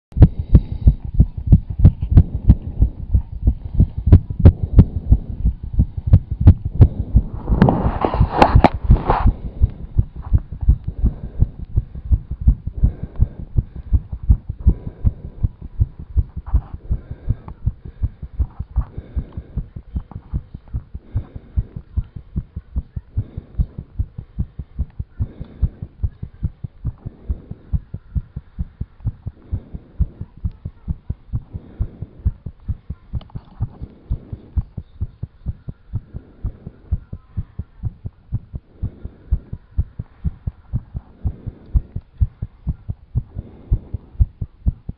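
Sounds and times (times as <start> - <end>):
fast heartbeat thumps: 0.1 - 44.9.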